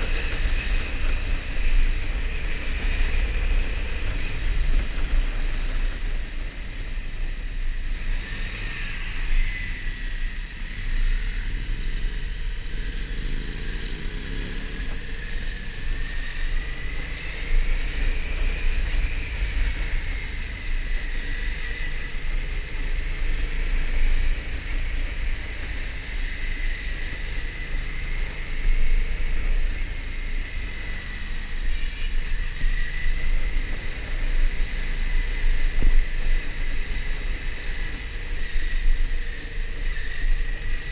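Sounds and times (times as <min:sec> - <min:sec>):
thin wavering whine: 0:00.0 - 0:40.9
wind rumble on microphone: 0:00.0 - 0:40.9.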